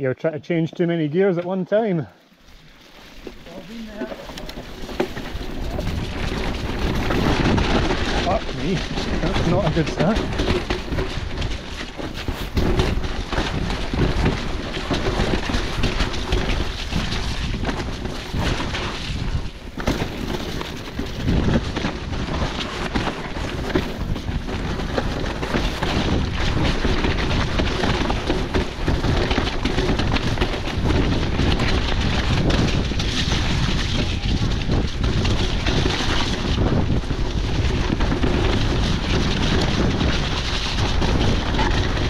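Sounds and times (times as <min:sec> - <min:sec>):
tyres rushing over wet trail: 0:02.4 - 0:42.0
bike clattering over bumps: 0:03.0 - 0:42.0
wind rumbling on microphone: 0:03.2 - 0:42.0.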